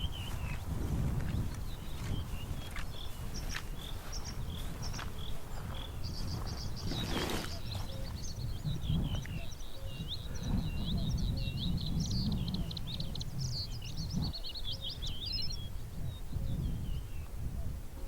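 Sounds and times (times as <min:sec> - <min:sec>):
bird singing: 0:00.0 - 0:17.8
wind noise rumble: 0:00.0 - 0:18.0.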